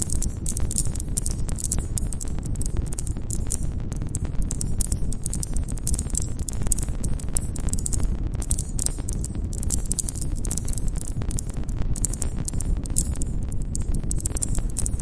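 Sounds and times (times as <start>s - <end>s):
wood crackling and popping: 0.0s - 15.0s.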